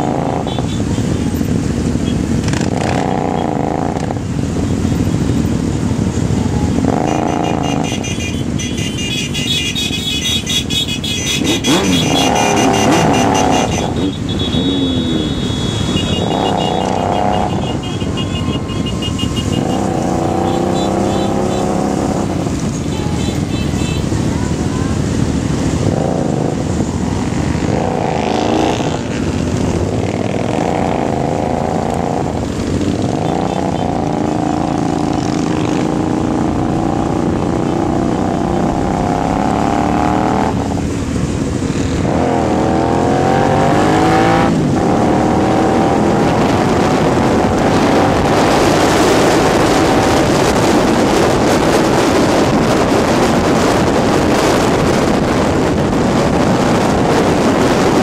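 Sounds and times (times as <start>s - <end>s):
other motorcycles: 0.0s - 58.0s
wind noise: 0.0s - 58.0s
motorcycle engine accelerating: 11.2s - 58.0s.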